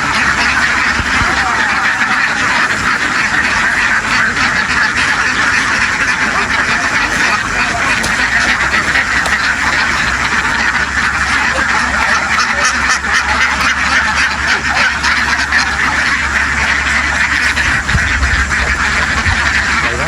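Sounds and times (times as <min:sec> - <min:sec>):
flock of ducks quacking: 0:00.0 - 0:20.0
low hum: 0:00.0 - 0:20.0.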